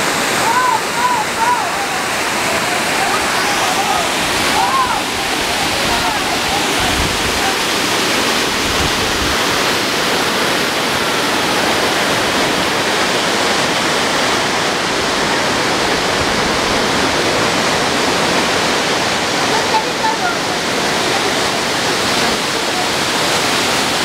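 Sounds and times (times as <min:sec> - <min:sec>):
waterfall onto rock: 0:00.0 - 0:24.0.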